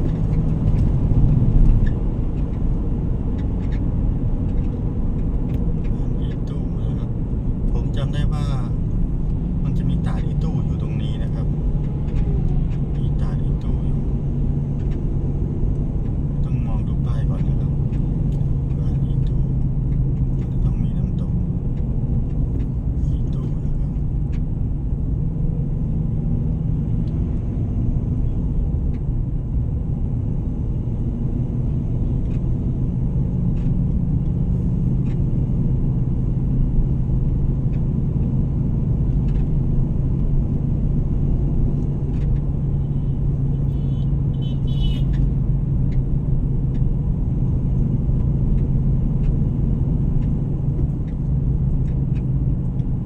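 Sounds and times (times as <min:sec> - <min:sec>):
vehicle engine and road drone: 0:00.0 - 0:53.0.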